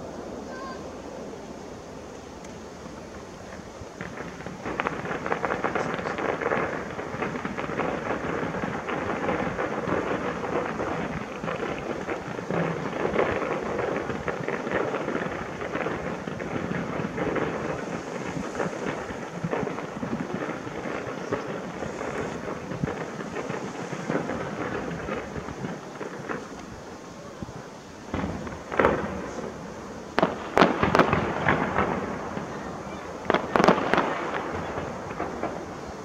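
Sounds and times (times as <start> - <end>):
fireworks crackling: 0.0 - 36.0.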